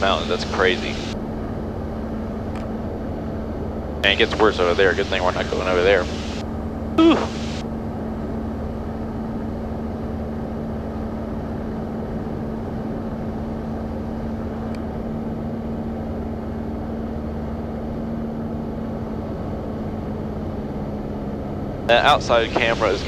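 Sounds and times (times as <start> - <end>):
aircraft engine and propeller droning: 0.0 - 23.0
steady hum: 0.0 - 23.0.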